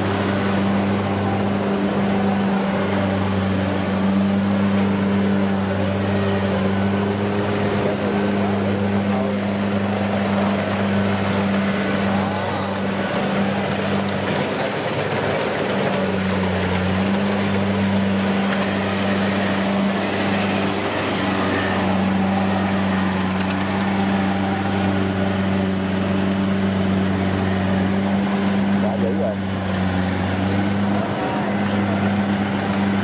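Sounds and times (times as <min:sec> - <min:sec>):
diesel engine humming: 0:00.0 - 0:33.0.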